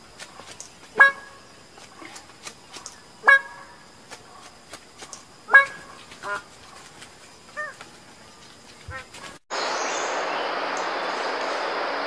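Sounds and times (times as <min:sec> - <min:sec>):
bird calling: 0:00.0 - 0:07.8, 0:08.7 - 0:11.0.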